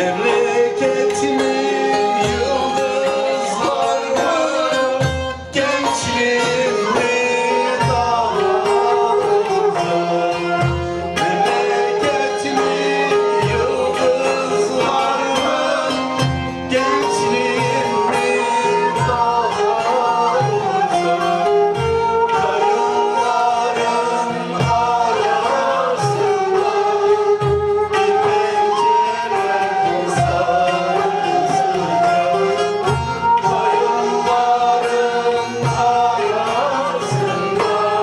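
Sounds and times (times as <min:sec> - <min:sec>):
person singing: 0:00.0 - 0:38.0
plucked string instruments: 0:00.0 - 0:38.0.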